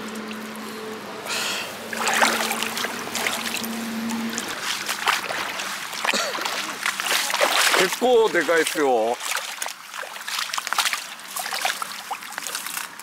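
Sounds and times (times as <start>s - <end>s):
shallow water splashing and sloshing: 1.3s - 13.0s
dry reeds crackling underfoot: 2.0s - 13.0s.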